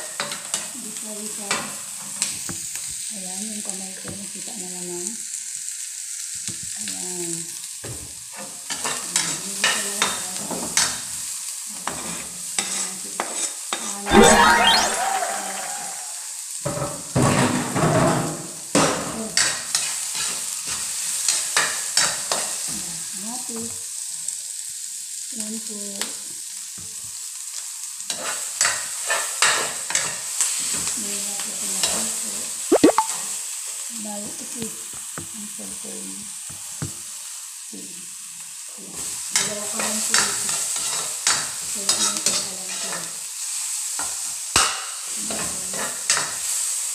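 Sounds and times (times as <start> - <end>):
onion sizzling in oil: 0.0 - 46.9.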